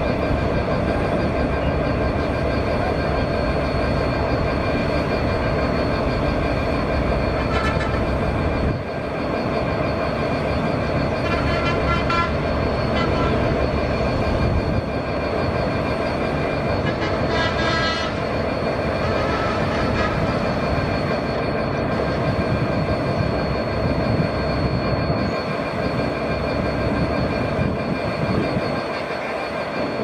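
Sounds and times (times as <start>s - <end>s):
diesel locomotive engine running: 0.0s - 30.0s
high-pitched wheel squeals: 0.0s - 30.0s.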